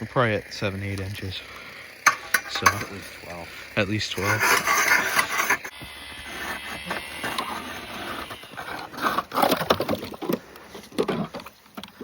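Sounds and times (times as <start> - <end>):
ice auger grinding: 0.0 - 12.0
ice crunching and cracking: 0.9 - 12.0.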